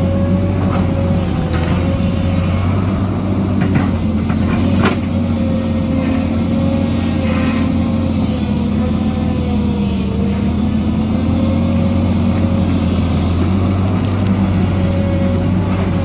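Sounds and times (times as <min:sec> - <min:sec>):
diesel excavator engine running: 0:00.0 - 0:16.0.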